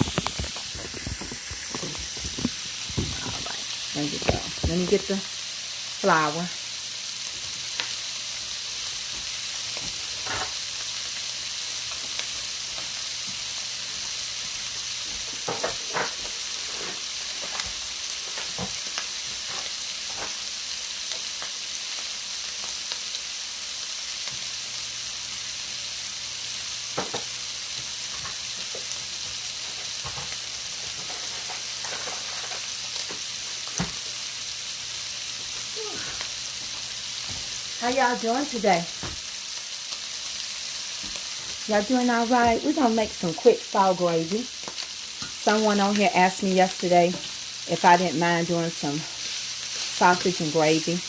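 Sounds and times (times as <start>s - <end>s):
food sizzling in skillet: 0.0s - 51.0s.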